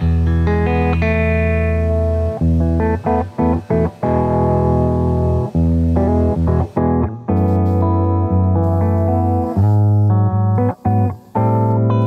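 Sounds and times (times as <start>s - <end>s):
guitar and bass music: 0.0s - 12.0s.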